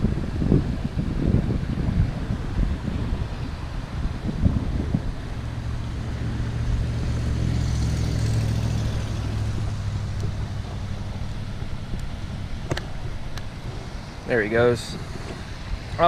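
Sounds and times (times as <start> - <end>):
vehicle engine hum passing: 0.0 - 16.0
wind rumbling on microphone: 0.0 - 16.0.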